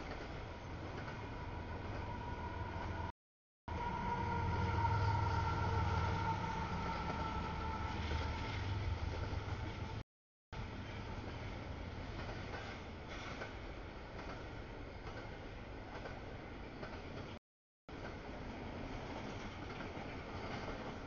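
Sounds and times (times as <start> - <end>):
freight train passing: 0.0 - 3.1, 3.7 - 10.0, 10.6 - 21.0.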